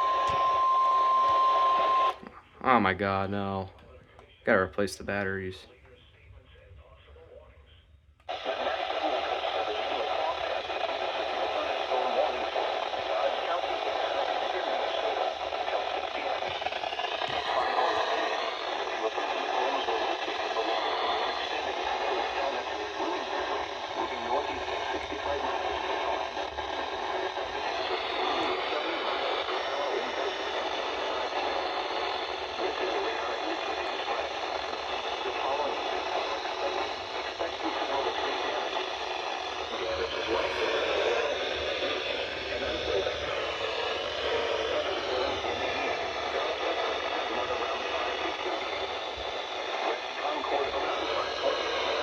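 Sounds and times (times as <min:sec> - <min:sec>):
radio static hiss: 0:00.0 - 0:52.0
garbled speech over radio: 0:01.2 - 0:52.0
faint indistinct voice: 0:05.5 - 0:52.0.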